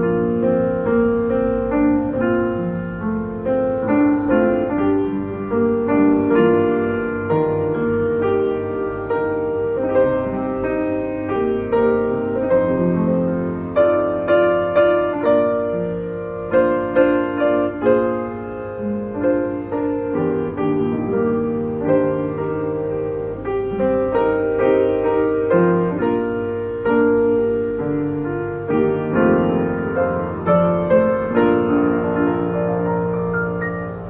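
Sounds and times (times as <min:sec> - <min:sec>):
upright piano playing: 0:00.0 - 0:34.0.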